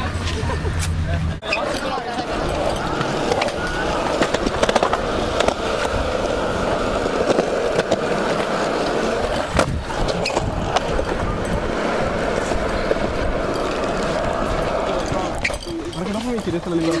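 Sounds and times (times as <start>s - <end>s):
skateboard clacks: 0.0s - 17.0s
skateboard wheels rolling on pavement: 0.0s - 17.0s.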